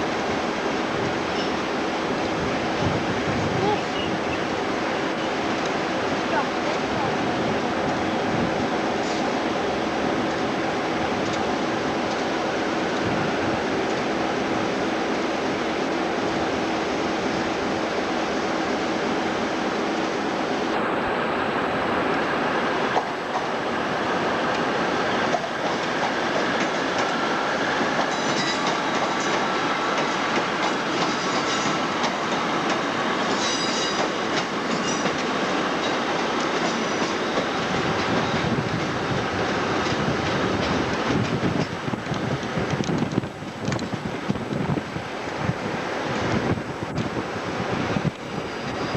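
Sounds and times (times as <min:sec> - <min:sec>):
train running on track: 0:00.0 - 0:48.9.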